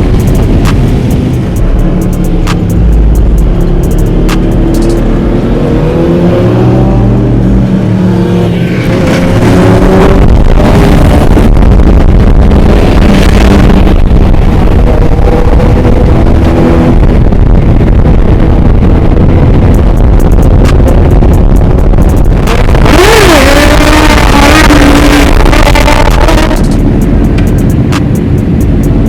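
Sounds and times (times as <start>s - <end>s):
dirt bike and atv engines revving: 0.0s - 11.7s, 12.4s - 29.0s.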